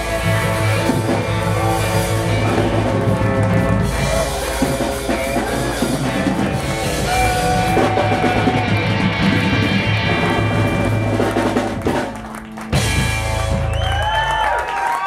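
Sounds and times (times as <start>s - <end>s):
upright double bass: 0.0s - 14.1s
electric guitar: 0.0s - 14.9s
drum kit: 0.0s - 15.0s.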